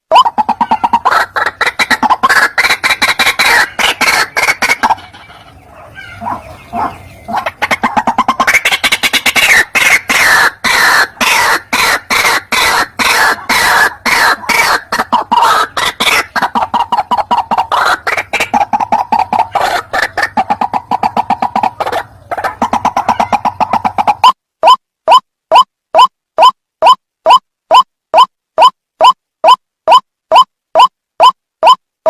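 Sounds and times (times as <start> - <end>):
bird calling harsh repeated notes: 0.1 - 31.8.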